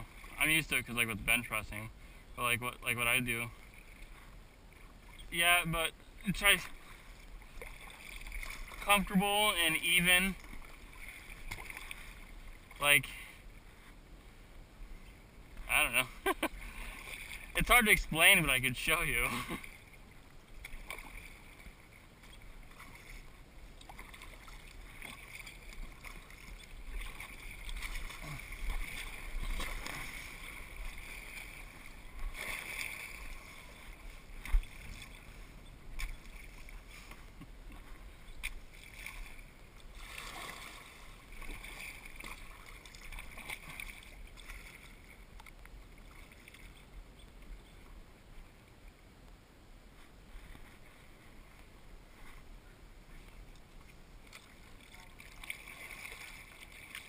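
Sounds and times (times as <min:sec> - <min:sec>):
paddle swishing water: 0:00.0 - 0:02.3, 0:03.1 - 0:49.0, 0:49.8 - 0:57.0.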